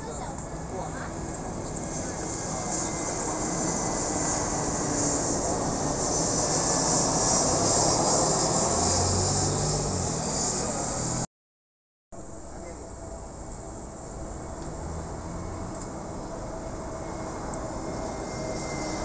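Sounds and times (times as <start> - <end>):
faint jet whine: 0.0 - 11.3, 12.2 - 19.0
jet airliner passing overhead: 0.0 - 11.3, 12.2 - 19.0.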